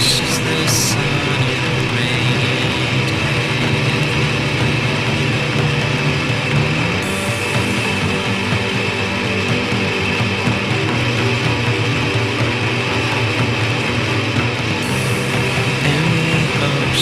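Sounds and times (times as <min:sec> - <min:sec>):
band playing electric guitars: 0:00.0 - 0:17.0.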